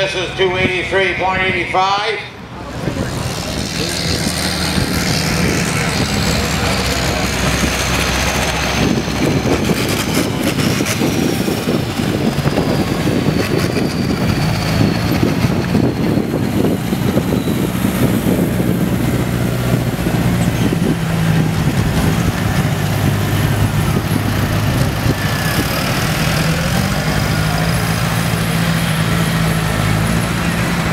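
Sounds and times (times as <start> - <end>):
tractor engines running: 0.0 - 30.9.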